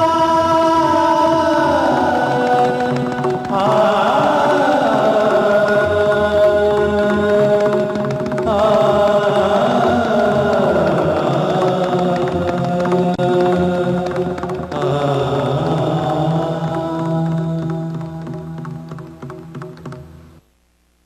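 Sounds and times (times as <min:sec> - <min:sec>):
steady held drone: 0:00.0 - 0:19.9
devotional chanting: 0:00.0 - 0:20.0.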